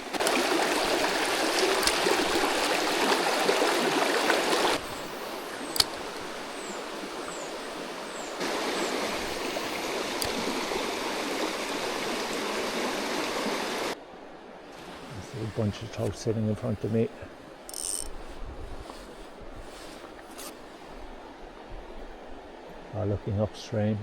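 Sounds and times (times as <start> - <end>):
mountain stream flowing: 0.0 - 24.0.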